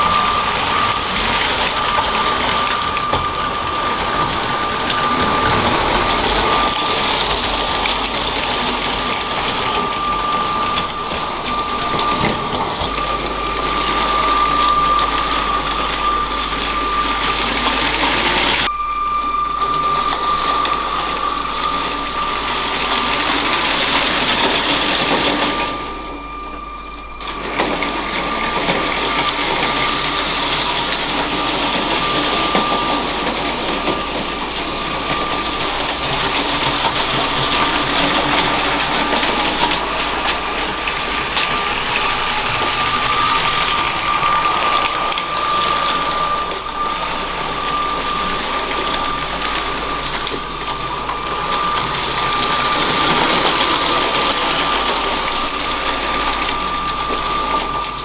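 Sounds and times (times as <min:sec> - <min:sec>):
wheels rattling on plastic track: 0:00.0 - 0:18.7, 0:19.5 - 0:58.0
toy train motor whine: 0:00.0 - 0:58.0.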